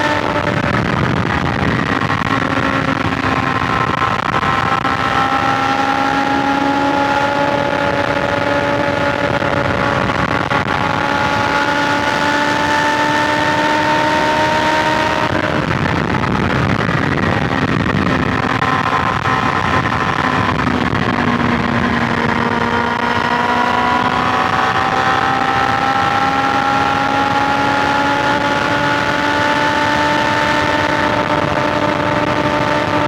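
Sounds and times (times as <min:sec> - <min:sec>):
wind and road noise: 0:00.0 - 0:33.0.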